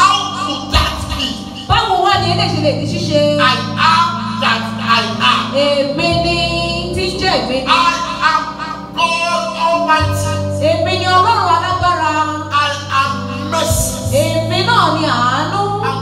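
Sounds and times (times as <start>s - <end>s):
worship music with singing: 0.0s - 16.0s.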